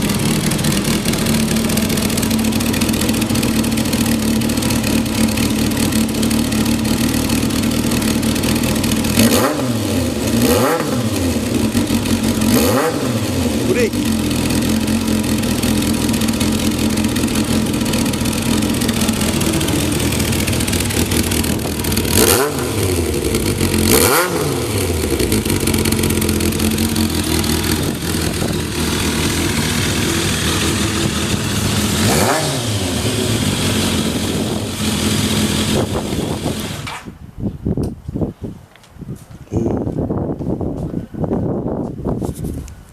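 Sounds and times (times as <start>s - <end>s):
motorcycle engine idling and revving: 0.0s - 37.4s.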